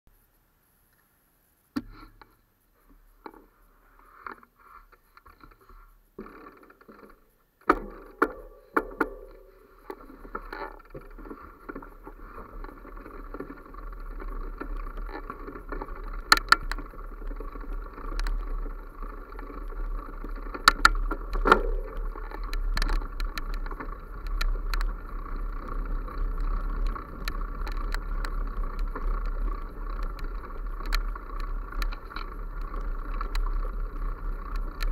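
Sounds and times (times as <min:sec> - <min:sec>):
steady rumble: 0:01.5 - 0:34.9.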